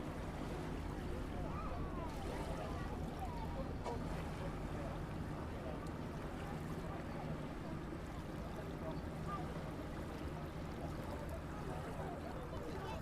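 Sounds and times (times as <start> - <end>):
distant boat engine hum: 0.0 - 13.0.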